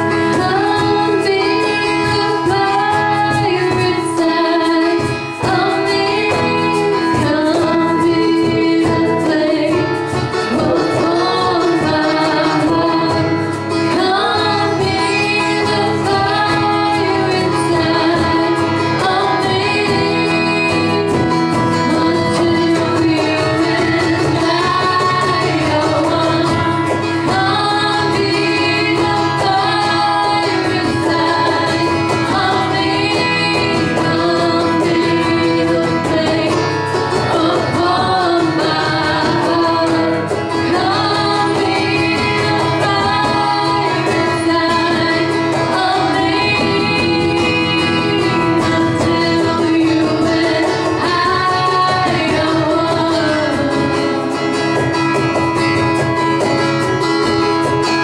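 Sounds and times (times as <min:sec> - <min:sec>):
women singing worship song: 0:00.0 - 0:54.7
instrumental accompaniment: 0:00.0 - 0:58.0.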